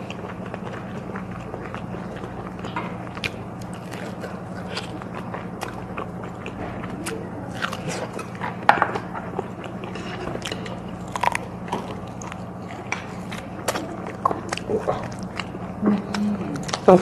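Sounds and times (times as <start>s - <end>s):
biting and chewing meat: 0.0s - 17.0s
steady low hum: 0.0s - 17.0s.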